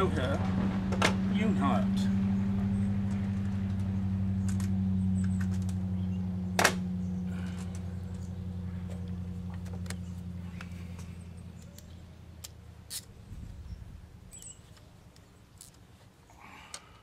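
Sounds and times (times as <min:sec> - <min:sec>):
distant motor hum: 0:00.0 - 0:15.4.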